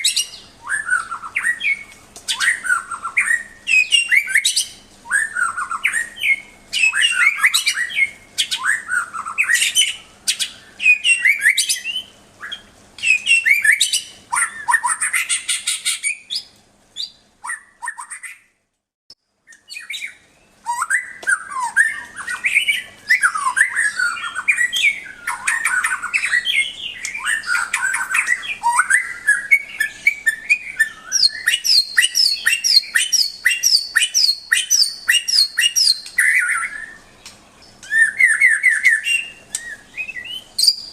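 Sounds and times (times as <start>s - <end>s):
bird singing whistled phrases: 0.0s - 18.5s, 19.5s - 40.9s.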